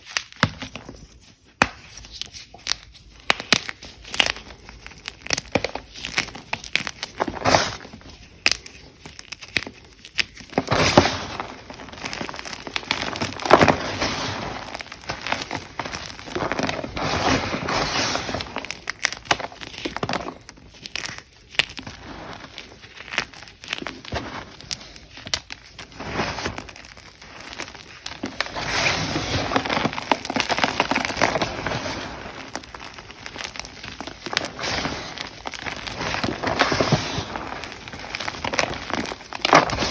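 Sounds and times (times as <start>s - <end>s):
chalk being crushed: 1.6s - 39.9s.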